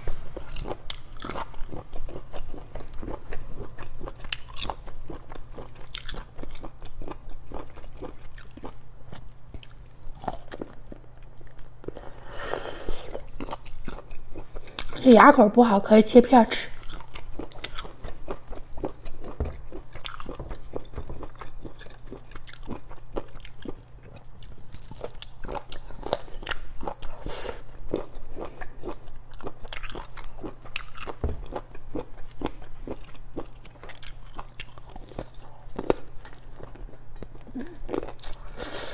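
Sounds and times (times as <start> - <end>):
wet chewing mouth sounds: 0.0 - 15.0, 16.7 - 38.9
low steady hum: 0.0 - 38.9.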